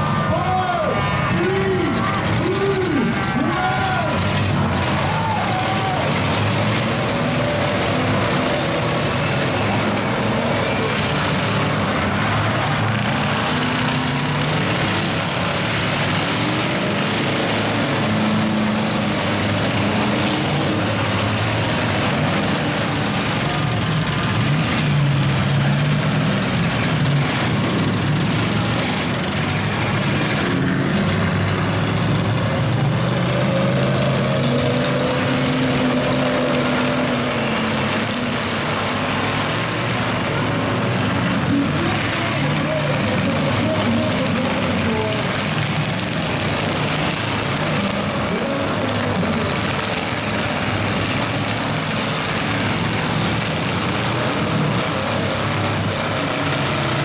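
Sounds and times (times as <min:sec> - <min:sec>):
constant noisy background: 0:00.0 - 0:57.0
pickup truck engines revving: 0:00.0 - 0:57.0.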